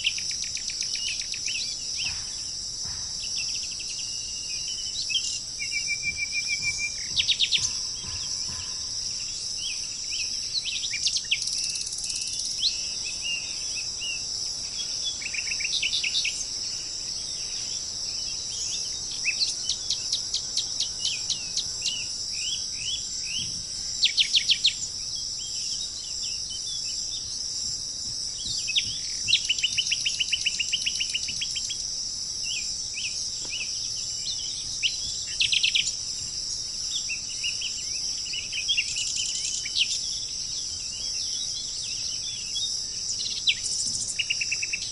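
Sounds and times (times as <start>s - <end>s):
high-pitched insect drone: 0.0s - 44.9s
small birds chirping and trilling: 0.0s - 44.9s.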